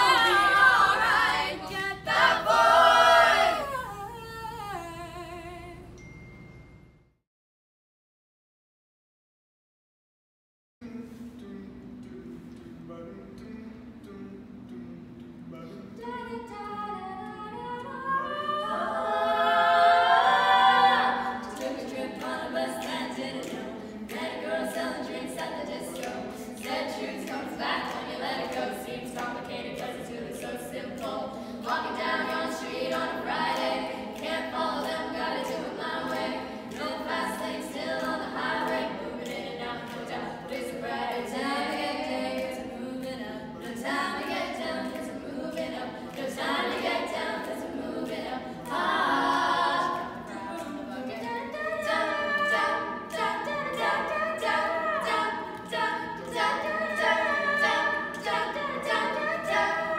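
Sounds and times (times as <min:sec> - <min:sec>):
women singing a cappella: 0:00.0 - 0:06.0, 0:10.8 - 0:59.9.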